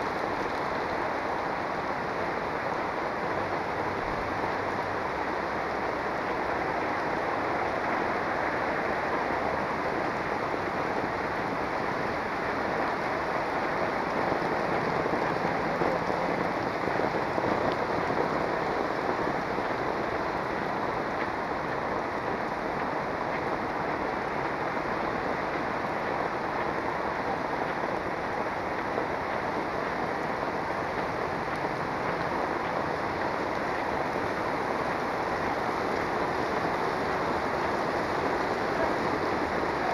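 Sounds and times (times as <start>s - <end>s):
heavy rain on street and roofs: 0.0s - 39.9s.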